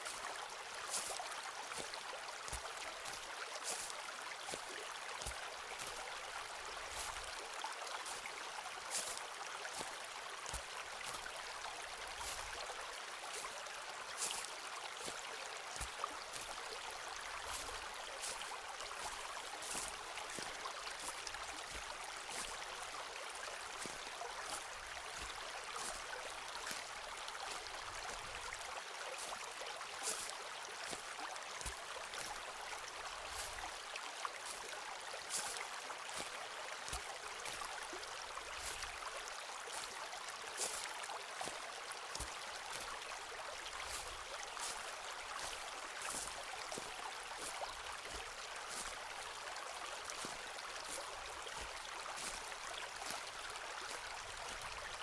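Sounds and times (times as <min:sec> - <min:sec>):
footsteps on a forest path: 0:00.0 - 0:55.0
running water hiss: 0:00.0 - 0:55.0.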